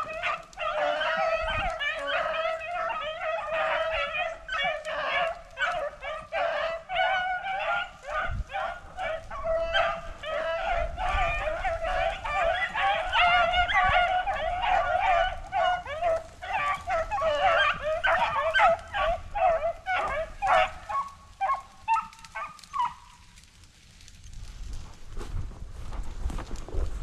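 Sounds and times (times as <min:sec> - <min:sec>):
pack of hounds baying: 0:00.0 - 0:23.4.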